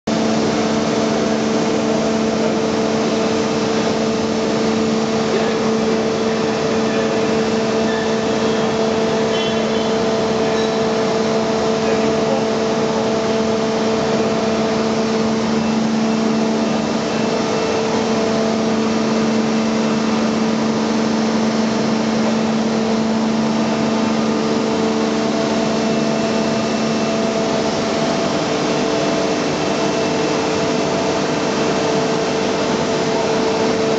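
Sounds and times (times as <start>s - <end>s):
boring machine humming: 0.1s - 33.9s.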